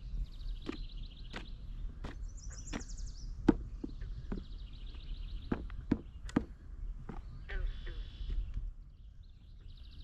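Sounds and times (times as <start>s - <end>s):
footsteps on a woodland trail: 0.0s - 8.8s
birdsong trills: 0.0s - 10.0s.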